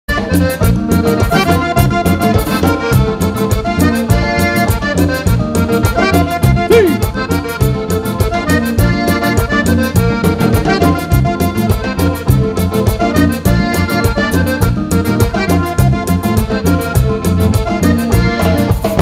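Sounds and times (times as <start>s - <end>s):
accordion melody: 0.1s - 19.0s
bass notes: 0.1s - 19.0s
steady percussion beat: 0.1s - 19.0s.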